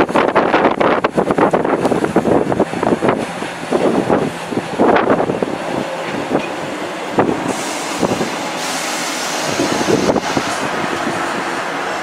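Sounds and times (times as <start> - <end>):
diesel train rumbling past: 0.0 - 12.0.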